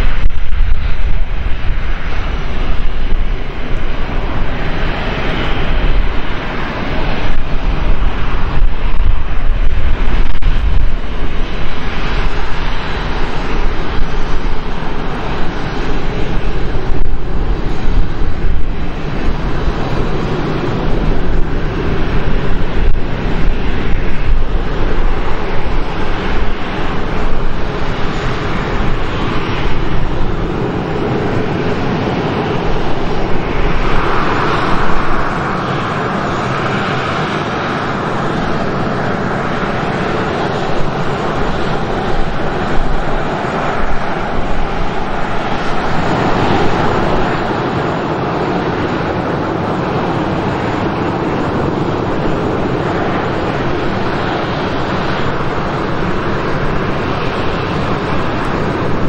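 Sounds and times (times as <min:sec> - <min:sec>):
jet engines taxiing: 0:00.0 - 0:59.0.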